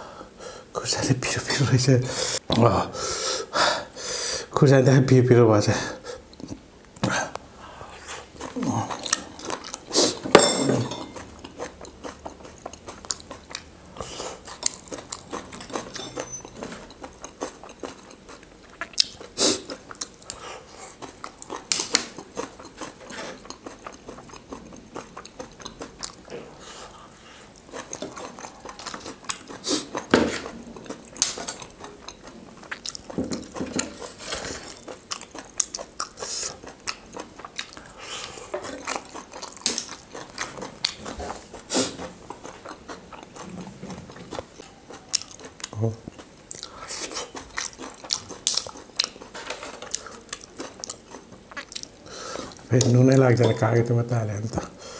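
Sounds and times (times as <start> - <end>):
person chewing crunchy food: 7.7 - 53.0.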